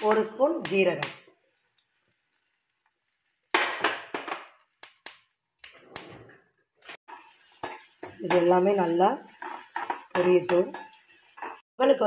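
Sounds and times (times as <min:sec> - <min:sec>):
seeds crackling and popping in oil: 0:00.0 - 0:11.7
spices sizzling in hot oil: 0:00.0 - 0:12.0.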